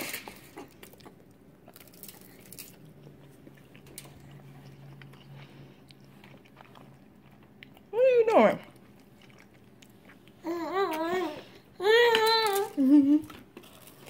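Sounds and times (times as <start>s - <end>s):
baby chewing: 0.0s - 7.9s, 8.6s - 14.0s.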